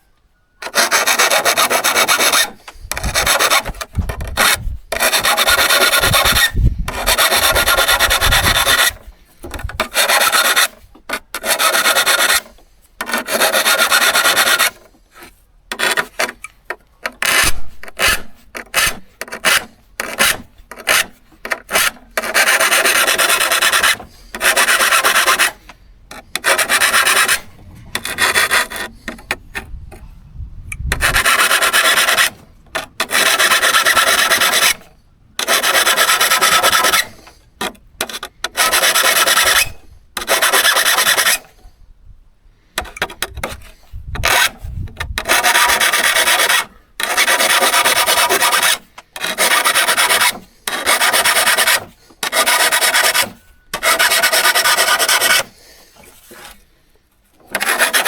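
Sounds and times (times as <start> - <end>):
file strokes on saw blade: 0.6 - 30.0, 30.7 - 41.6, 42.7 - 56.7, 57.4 - 58.0.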